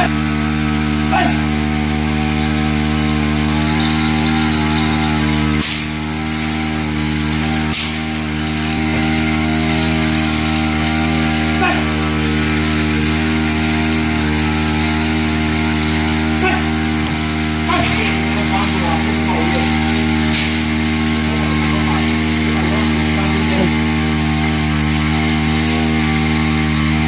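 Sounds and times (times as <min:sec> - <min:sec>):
small sprayer engine running: 0:00.0 - 0:27.0.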